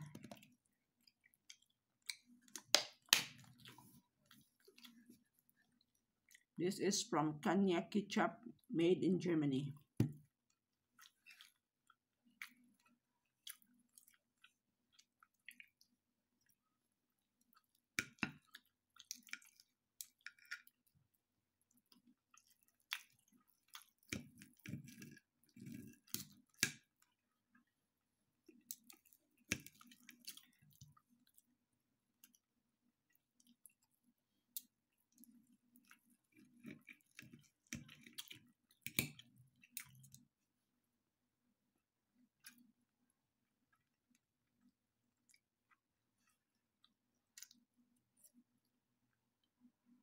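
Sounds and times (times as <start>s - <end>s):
chewing: 0.0s - 6.6s, 10.4s - 16.7s, 17.3s - 27.7s, 28.4s - 31.6s, 32.2s - 40.4s, 43.7s - 49.7s.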